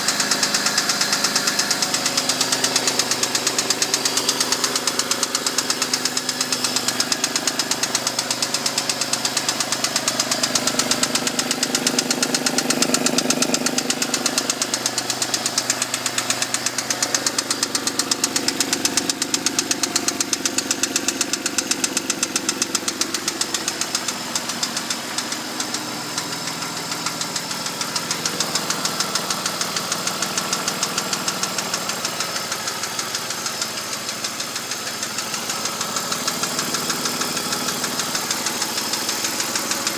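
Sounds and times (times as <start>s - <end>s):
car engine running: 0.0s - 39.9s
engine knocking: 0.0s - 39.9s.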